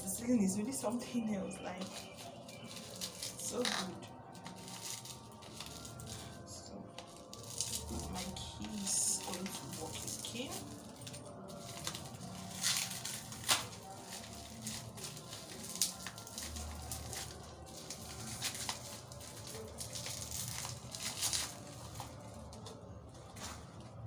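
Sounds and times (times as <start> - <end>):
plastic wrapping crinkling and tearing: 0.2 - 24.0.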